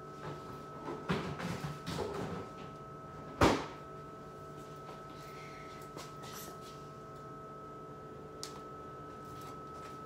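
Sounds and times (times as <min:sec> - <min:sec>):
electrical hum with high whine: 0:00.0 - 0:10.0.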